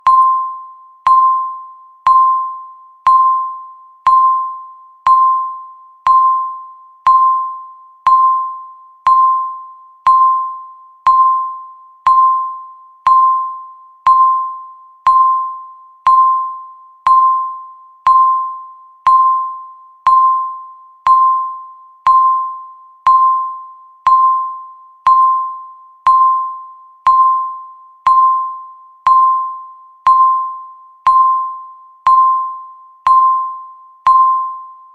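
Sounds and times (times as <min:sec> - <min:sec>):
electronic timer beeps: 0:00.0 - 0:34.9.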